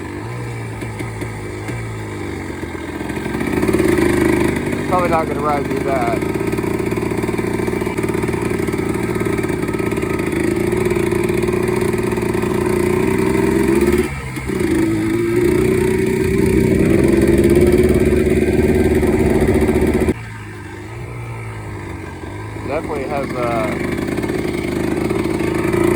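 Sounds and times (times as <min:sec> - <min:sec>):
two-stroke off-road engine revving: 0:00.0 - 0:25.9.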